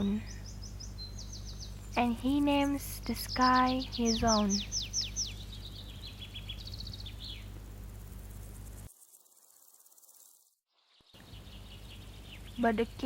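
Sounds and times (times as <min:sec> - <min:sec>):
steady low hum: 0:00.0 - 0:10.3, 0:11.2 - 0:13.0
birds chirping: 0:00.0 - 0:13.0
faint hiss: 0:01.6 - 0:13.0.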